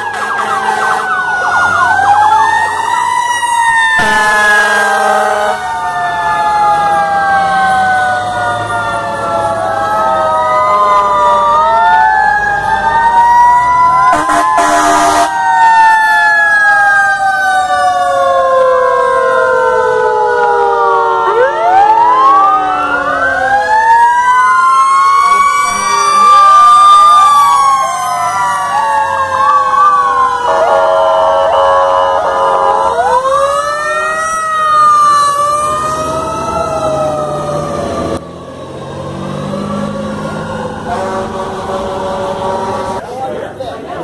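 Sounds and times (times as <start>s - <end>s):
fire truck sirens wailing: 0.0s - 44.0s.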